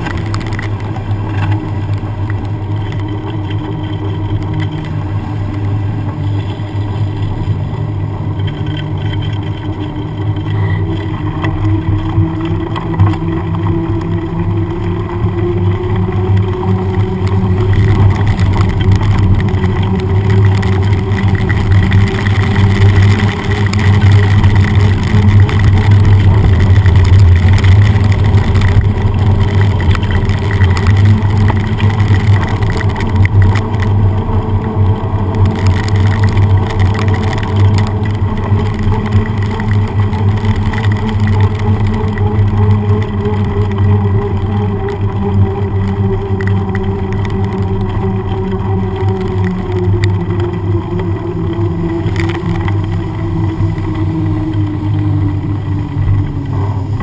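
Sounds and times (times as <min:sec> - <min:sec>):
bicycle tyre on wet asphalt: 0:00.0 - 0:57.0.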